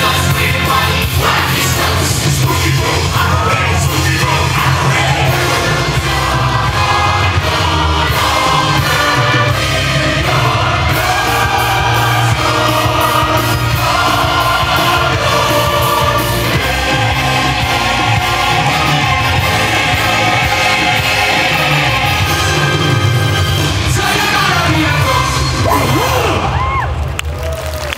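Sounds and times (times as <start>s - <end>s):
music with sung chorus: 0.0s - 26.8s
strong bass line: 0.0s - 26.9s.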